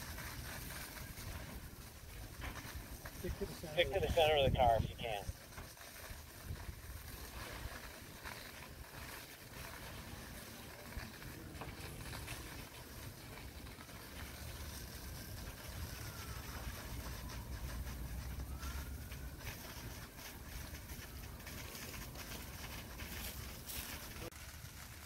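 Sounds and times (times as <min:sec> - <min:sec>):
continuous hiss: 0:00.0 - 0:25.0
engines and pumps rumbling: 0:00.0 - 0:25.0.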